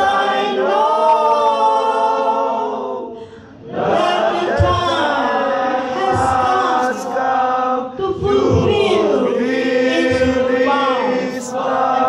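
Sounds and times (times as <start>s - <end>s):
group singing in unison: 0.0s - 12.0s.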